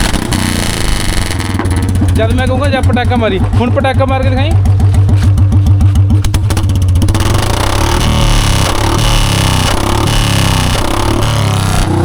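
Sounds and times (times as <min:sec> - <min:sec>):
motorcycle engine thumping and revving: 0:00.0 - 0:12.0.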